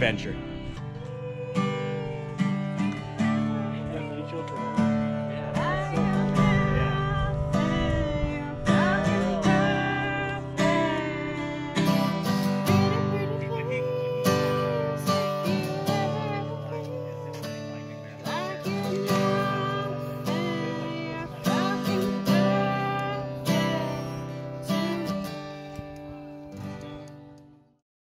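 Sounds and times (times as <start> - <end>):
strummed acoustic guitar music: 0.0 - 27.7.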